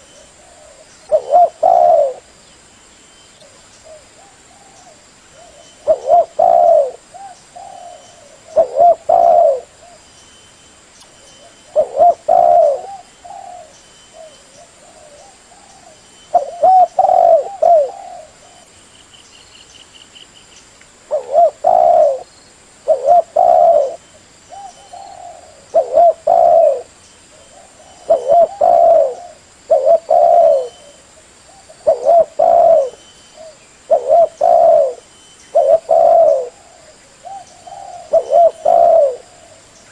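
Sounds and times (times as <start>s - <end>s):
dove cooing: 0.0s - 2.4s, 3.4s - 10.0s, 11.3s - 18.7s, 21.1s - 39.9s.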